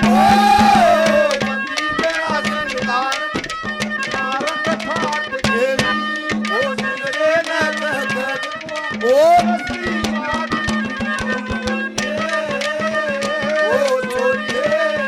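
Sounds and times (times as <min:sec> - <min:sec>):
drums in quick rhythm: 0:00.0 - 0:15.0
person singing: 0:00.0 - 0:15.0.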